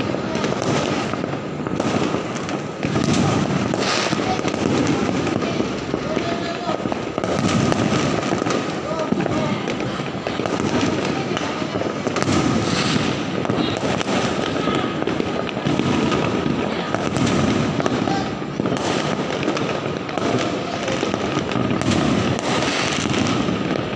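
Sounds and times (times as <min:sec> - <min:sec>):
fireworks bangs: 0:00.0 - 0:23.9
fireworks crackling and popping: 0:00.0 - 0:23.9.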